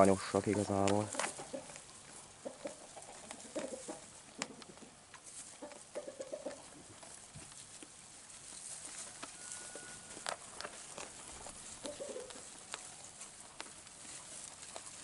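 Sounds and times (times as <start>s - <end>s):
sheep munching hay: 0.0s - 15.0s.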